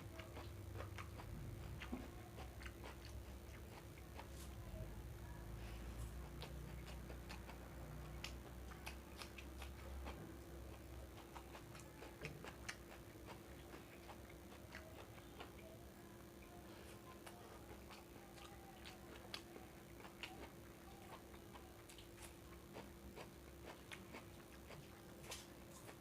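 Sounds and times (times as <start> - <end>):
steady low hum: 0.0 - 26.0
person chewing with mouth clicks: 0.1 - 4.3, 6.1 - 15.8, 16.4 - 26.0.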